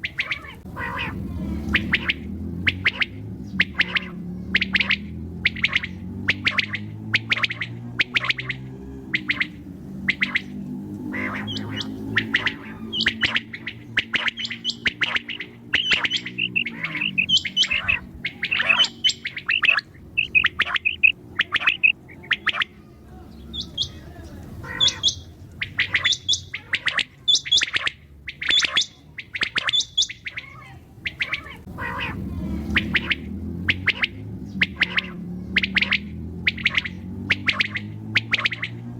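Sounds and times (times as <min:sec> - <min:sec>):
quail chirping calls: 0:00.0 - 0:38.9.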